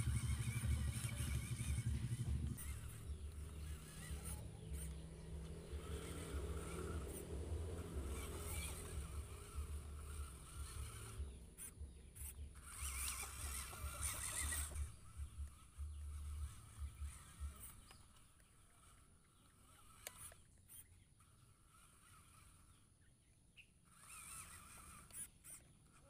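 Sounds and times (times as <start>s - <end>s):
small electric motor and gearbox: 0.0s - 26.0s.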